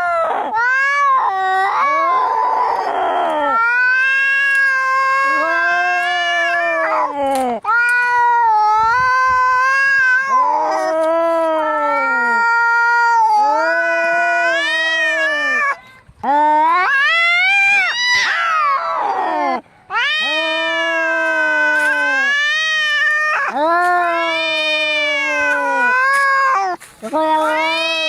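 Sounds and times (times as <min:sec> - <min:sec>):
cats yowling: 0:00.0 - 0:28.0.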